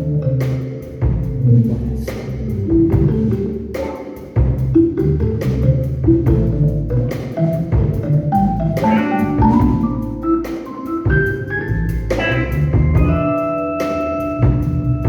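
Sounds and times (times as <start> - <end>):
bass guitar: 0.0 - 15.0
drum kit beat: 0.0 - 15.0.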